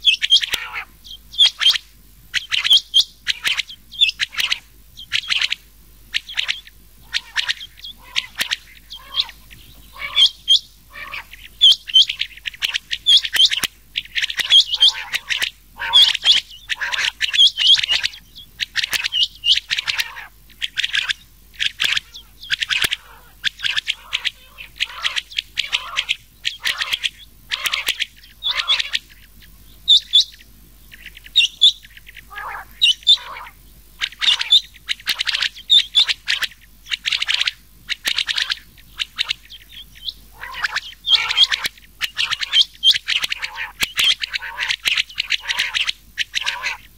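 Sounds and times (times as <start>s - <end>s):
quail calls: 0.0s - 46.9s.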